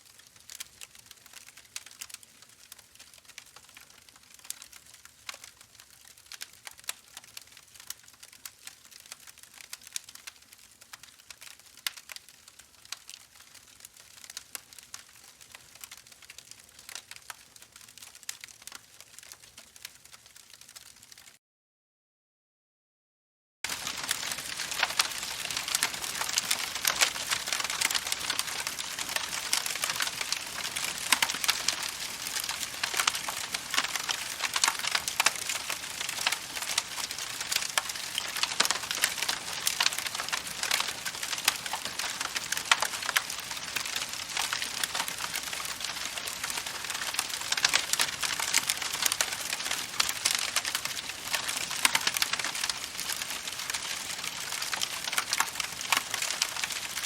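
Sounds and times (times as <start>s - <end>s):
campfire crackling: 0.1s - 21.3s, 23.7s - 57.0s.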